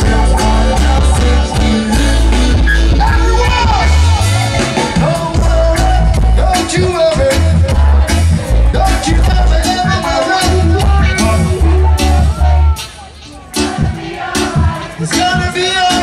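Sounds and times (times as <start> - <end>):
man singing into microphone: 0.0 - 12.9, 14.4 - 16.0
heavy bass line: 0.0 - 16.0
reggae band playing: 0.0 - 16.0.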